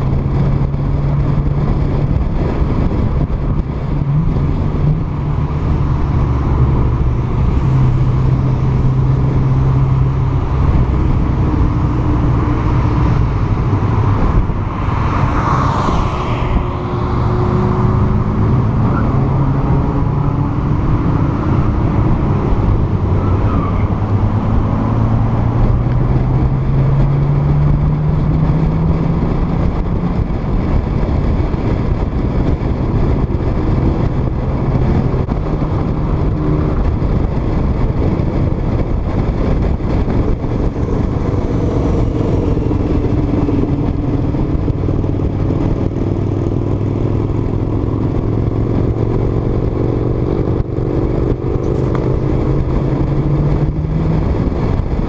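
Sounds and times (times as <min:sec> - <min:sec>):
car engine running: 0:00.0 - 0:55.0
road noise: 0:00.0 - 0:55.0
wind noise: 0:00.0 - 0:55.0.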